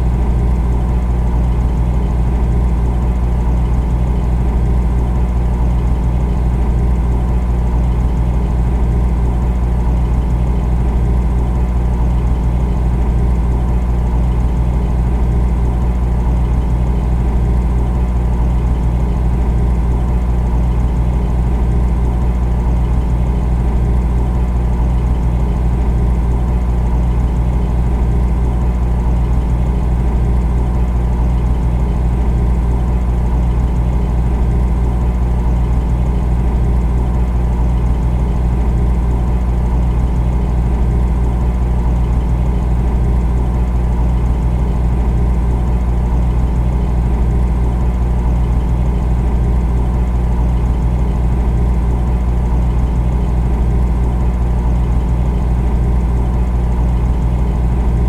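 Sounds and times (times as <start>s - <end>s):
refrigerator humming: 0.0s - 58.0s.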